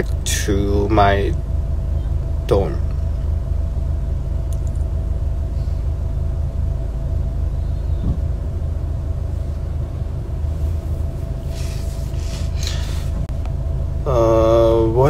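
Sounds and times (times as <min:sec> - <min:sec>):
car interior rumble: 0:00.0 - 0:15.0
faint steady hum: 0:00.0 - 0:15.0.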